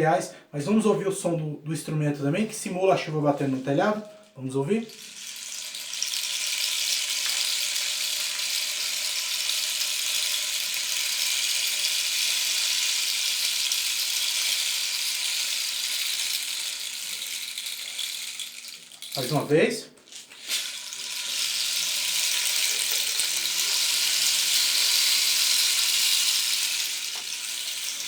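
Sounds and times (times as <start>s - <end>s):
rain stick pattering hiss: 2.5s - 28.0s.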